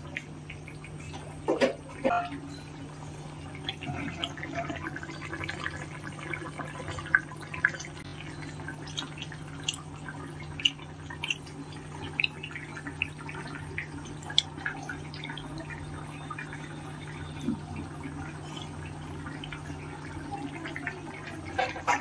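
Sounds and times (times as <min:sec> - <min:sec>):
thick gravy boiling in a pan: 0:00.0 - 0:22.0
bubbles bursting: 0:03.4 - 0:22.0.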